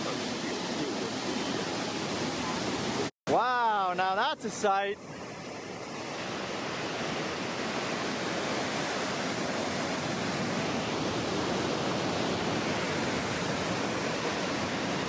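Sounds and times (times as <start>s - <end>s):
waterfall roaring: 0.0s - 4.9s, 6.2s - 15.0s.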